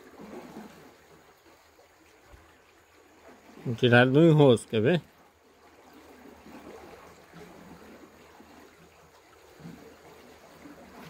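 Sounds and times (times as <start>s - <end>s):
flowing river water: 0.0s - 11.0s.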